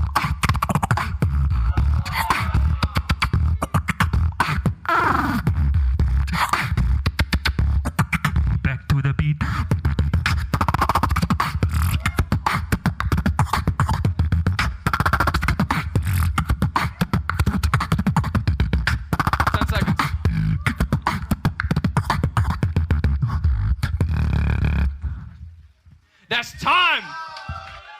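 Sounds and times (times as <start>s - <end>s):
beatboxing: 0.0s - 25.5s
deep bass: 0.0s - 25.5s.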